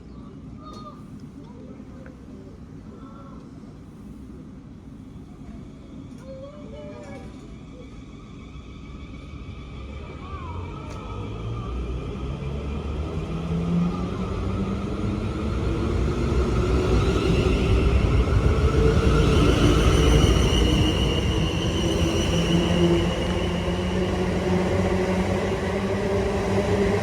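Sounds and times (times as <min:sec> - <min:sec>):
train rumbling: 0:03.4 - 0:27.0
train whine: 0:03.5 - 0:27.0.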